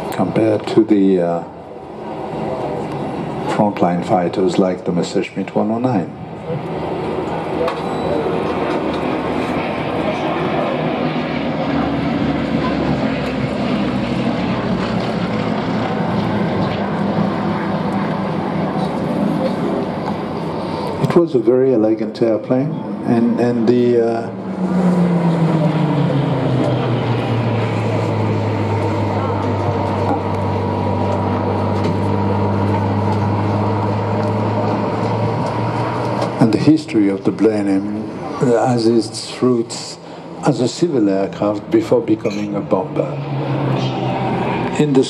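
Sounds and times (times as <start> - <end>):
aircraft engines droning: 0.0 - 45.0.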